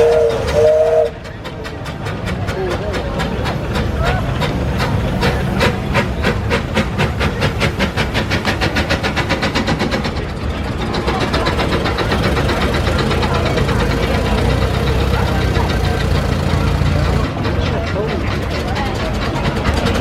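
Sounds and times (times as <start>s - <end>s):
steam engine exhaust chuffing: 0.0s - 20.0s.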